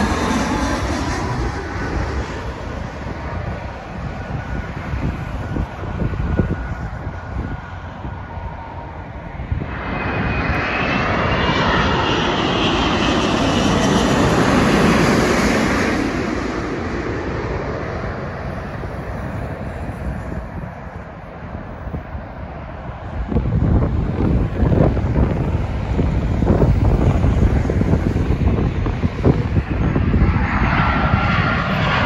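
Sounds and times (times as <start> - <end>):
jet airliner roaring overhead: 0.0 - 32.0.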